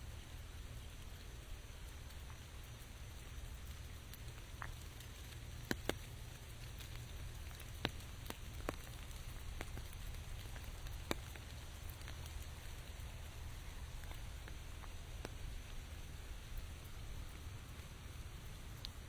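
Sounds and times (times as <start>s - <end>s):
large raindrops tapping: 0.0s - 19.0s
rain hissing: 0.0s - 19.0s.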